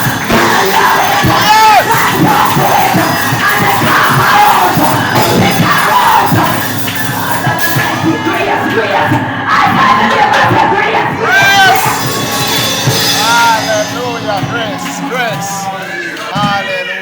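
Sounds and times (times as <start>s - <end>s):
congregation shouting and singing: 0.0s - 17.0s
loud music: 0.0s - 17.0s.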